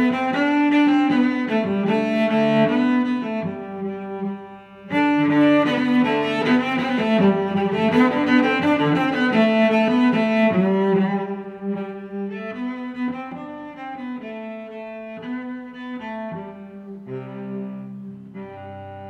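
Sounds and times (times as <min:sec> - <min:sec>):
music with sustained notes: 0:00.0 - 0:19.0.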